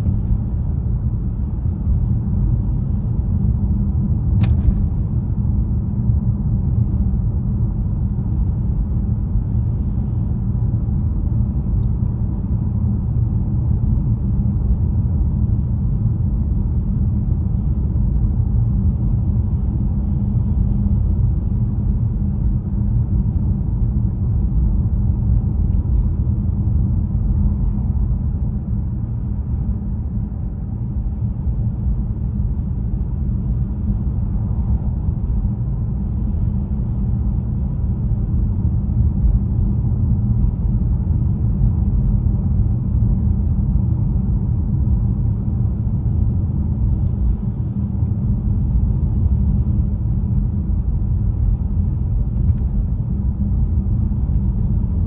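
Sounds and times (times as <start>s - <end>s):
road and tyre rumble in car: 0.0s - 55.0s.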